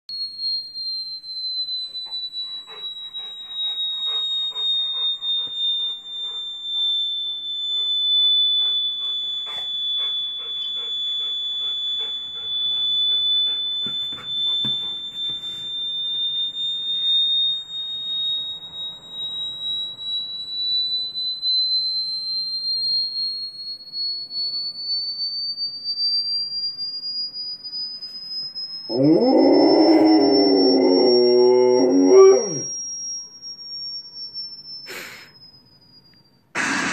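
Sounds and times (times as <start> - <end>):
high-pitched test tone: 0.2 - 25.8, 27.2 - 36.9.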